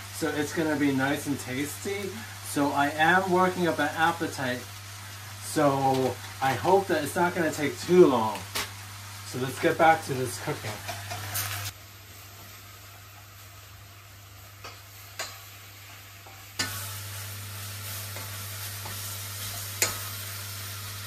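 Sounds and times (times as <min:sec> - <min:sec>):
filling sizzling in saucepan: 0:00.0 - 0:21.0.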